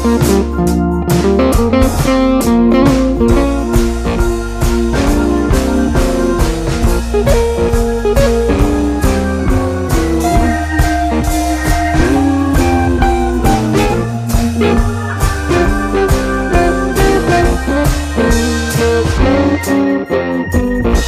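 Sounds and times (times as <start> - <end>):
guitar: 0.0 - 21.0
steady drum beat: 0.0 - 21.0.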